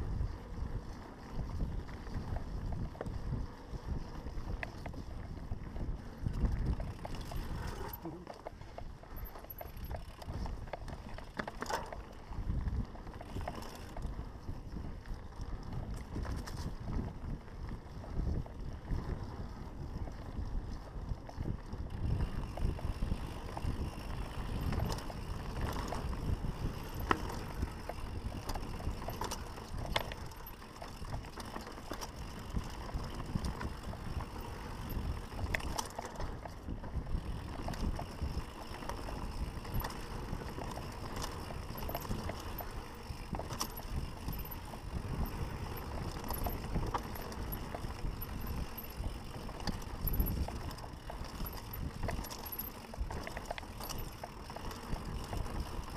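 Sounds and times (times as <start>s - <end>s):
bike clicks and rattles: 0.0s - 55.9s
bike rumbling over trail: 0.0s - 55.9s.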